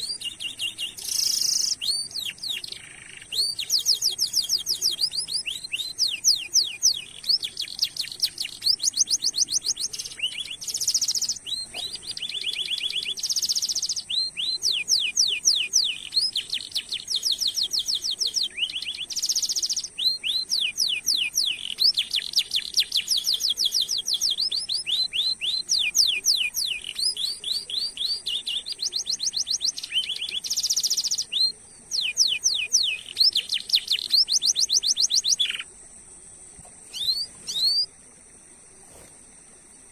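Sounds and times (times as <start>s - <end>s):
canary singing trills: 0.0s - 35.8s, 36.6s - 38.0s.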